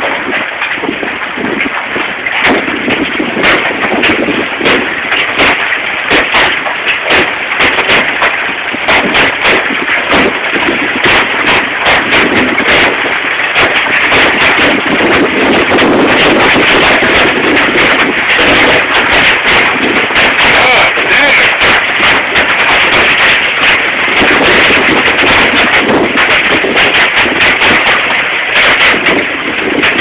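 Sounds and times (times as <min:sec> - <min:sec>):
hail rattling: 0:00.0 - 0:30.0
large hailstones cracking: 0:00.0 - 0:30.0.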